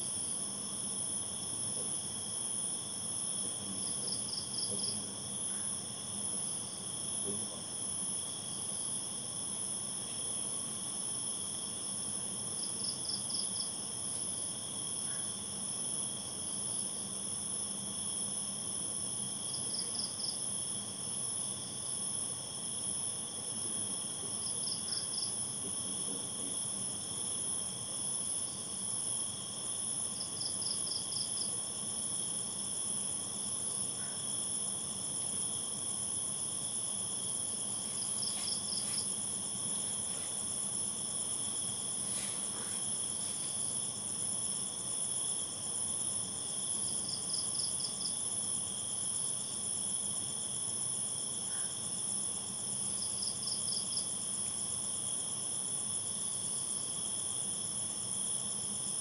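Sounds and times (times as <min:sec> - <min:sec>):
crickets droning: 0:00.0 - 0:59.0.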